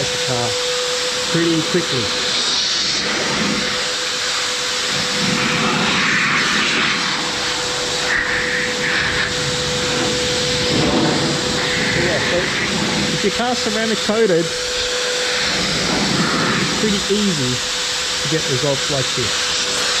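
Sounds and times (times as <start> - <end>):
blower rushing air: 0.0 - 20.0.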